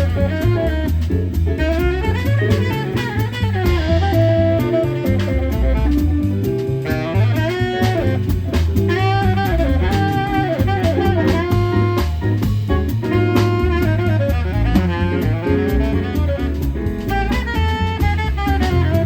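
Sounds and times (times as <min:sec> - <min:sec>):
bass line: 0:00.0 - 0:19.0
drum kit cymbals: 0:00.0 - 0:19.0
keyboard: 0:00.0 - 0:19.0
saxophone melody: 0:00.0 - 0:19.0.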